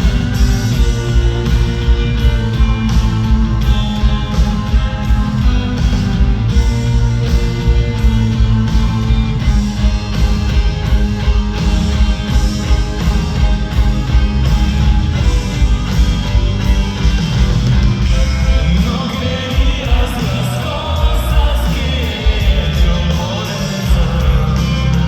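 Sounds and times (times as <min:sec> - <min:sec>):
bass guitar: 0:00.0 - 0:25.0
drums at a steady beat: 0:00.0 - 0:25.0
electric guitar: 0:00.0 - 0:25.0.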